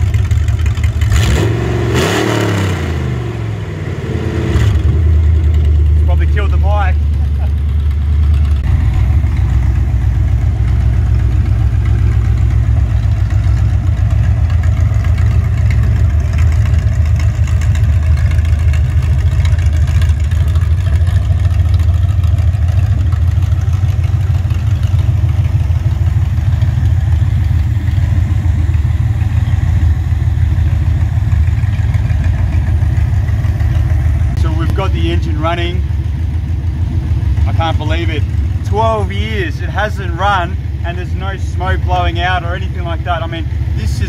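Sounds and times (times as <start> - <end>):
vee eight engine running unmuffled: 0.0 - 44.0.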